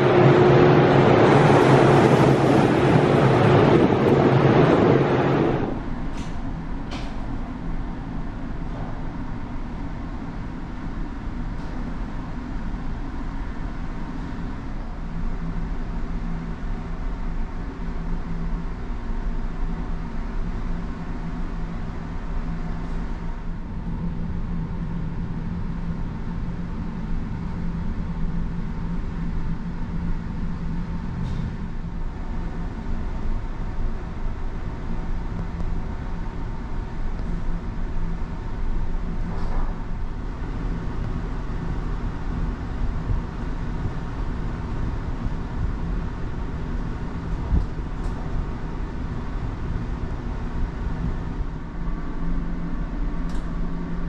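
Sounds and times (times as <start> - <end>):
ship engines droning: 0.0 - 54.0.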